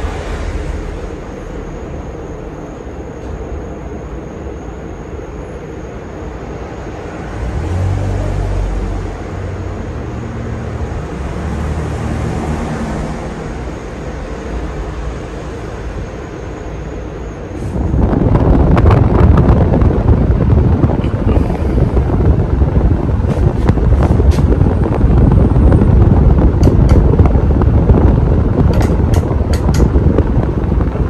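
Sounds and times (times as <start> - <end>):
ceiling fan whirring: 0.0 - 31.0
low rumble: 0.0 - 31.0.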